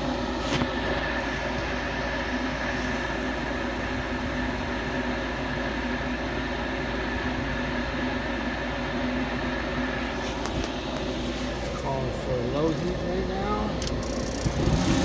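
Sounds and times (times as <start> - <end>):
furnace inducer motor whirring: 0.0 - 15.0.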